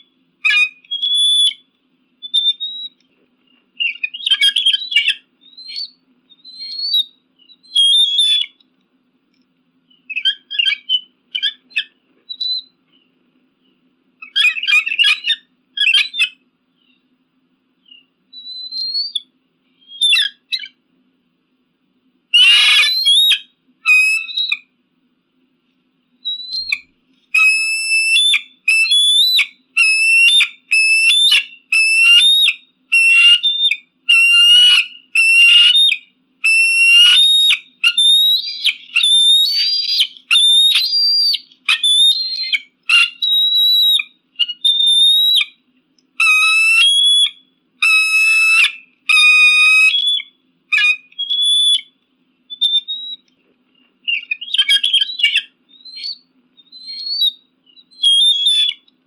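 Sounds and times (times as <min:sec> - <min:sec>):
eagle calling: 0:00.0 - 0:03.1, 0:03.8 - 0:08.6, 0:09.9 - 0:12.8, 0:14.2 - 0:17.0, 0:17.9 - 0:20.8, 0:22.3 - 0:24.7, 0:26.2 - 0:45.6, 0:46.2 - 0:53.4, 0:54.0 - 0:59.0.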